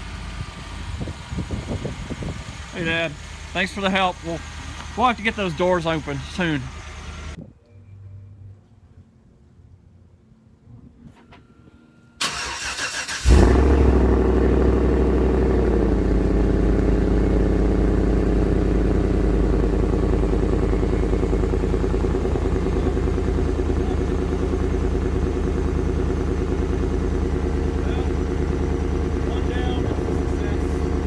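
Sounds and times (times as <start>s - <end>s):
car engine revving and idling: 0.0s - 7.4s, 12.4s - 31.0s.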